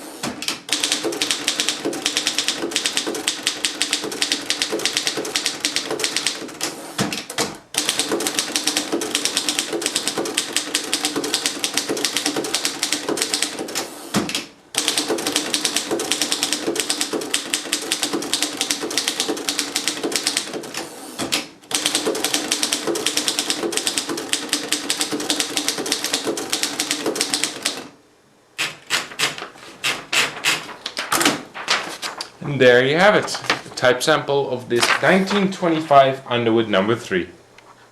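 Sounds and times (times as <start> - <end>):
manual typewriter typing: 0.3 - 27.9, 28.6 - 32.3.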